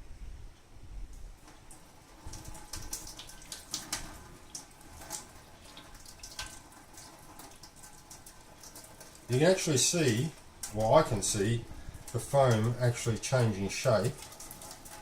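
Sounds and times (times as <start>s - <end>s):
hot water pouring and splashing: 1.1s - 15.0s.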